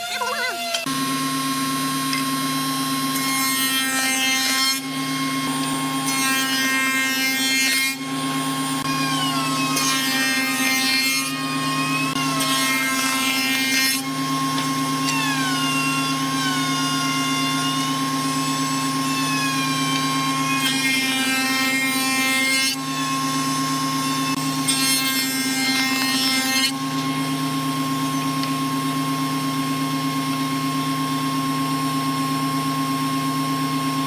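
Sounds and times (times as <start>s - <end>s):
cutter whining through wood: 0.0s - 34.0s
woodworking machine humming: 0.0s - 34.0s.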